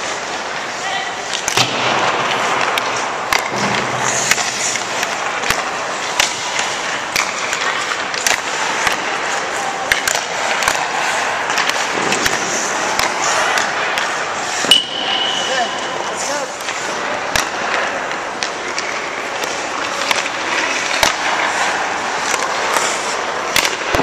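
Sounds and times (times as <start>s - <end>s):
hockey sticks striking pucks: 0.0s - 24.0s
pucks hitting net: 0.0s - 24.0s
skate blades scraping ice: 0.0s - 24.0s.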